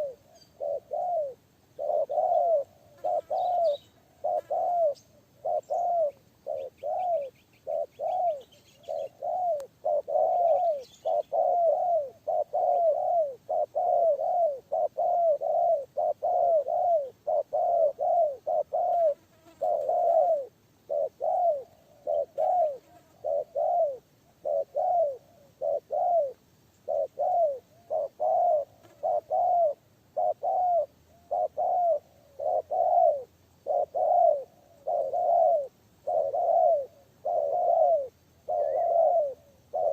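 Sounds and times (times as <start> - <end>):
dove cooing: 0.0 - 39.9
small bird chirping: 0.0 - 39.9.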